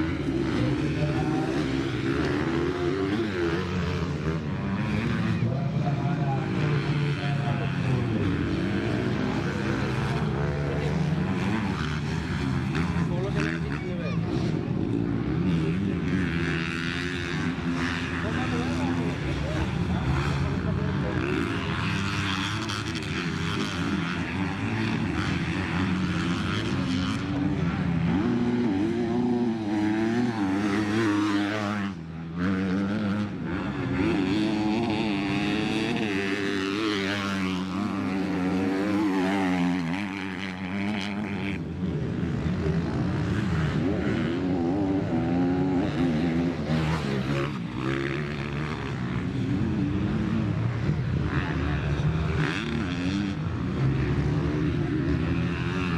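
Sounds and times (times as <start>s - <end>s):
dirt bike engines revving: 0.0s - 55.9s.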